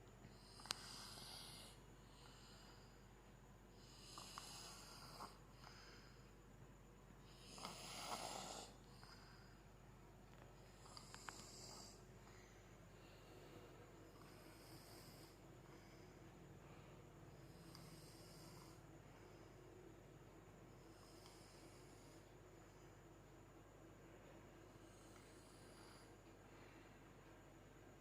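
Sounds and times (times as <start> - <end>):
child snoring softly: 0.2 - 23.0, 24.6 - 27.2.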